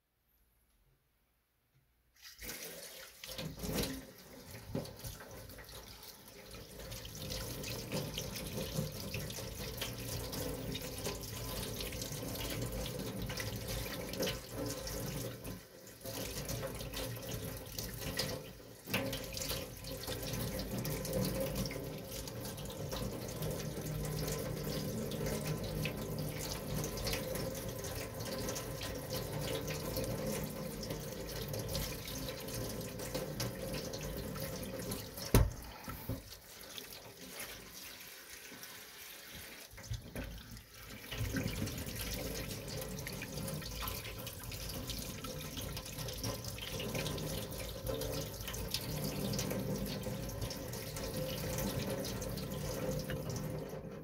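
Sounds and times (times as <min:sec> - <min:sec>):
tap water splashing into sink: 0:02.2 - 0:54.0.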